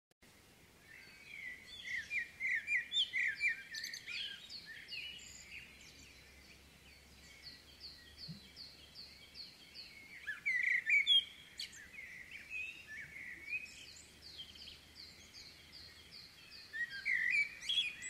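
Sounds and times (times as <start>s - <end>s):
songbirds chirping and singing: 0.4s - 18.0s.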